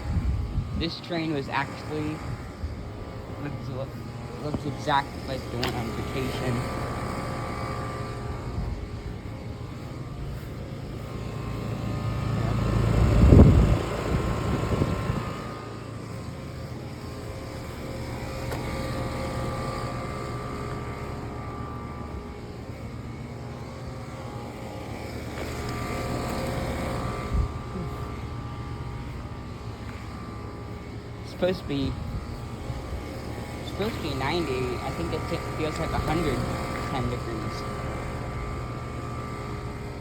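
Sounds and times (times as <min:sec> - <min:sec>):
air conditioner units humming: 0:00.0 - 0:40.0.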